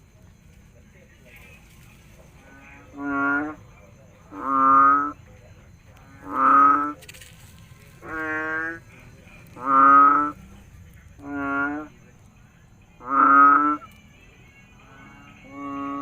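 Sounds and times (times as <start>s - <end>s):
frog calling: 0.0s - 16.0s.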